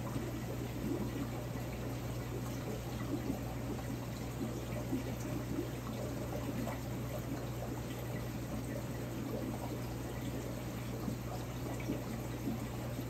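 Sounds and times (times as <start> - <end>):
aquarium water trickling: 0.0 - 13.0.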